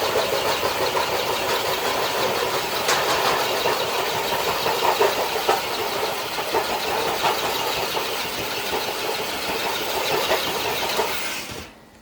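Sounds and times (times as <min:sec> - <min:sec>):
sled scraping on concrete: 0:00.0 - 0:11.7
toy truck drivetrain straining: 0:00.0 - 0:11.7.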